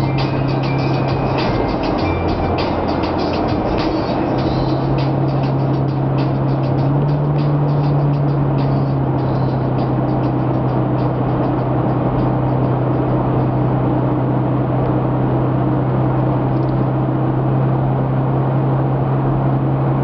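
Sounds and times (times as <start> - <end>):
car engine drone in cabin: 0.0 - 20.0.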